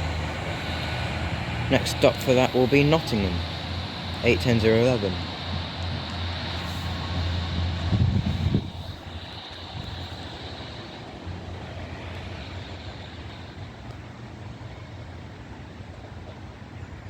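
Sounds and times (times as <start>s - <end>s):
faint high whine: 0.0s - 17.0s
train low rumble: 0.0s - 17.0s.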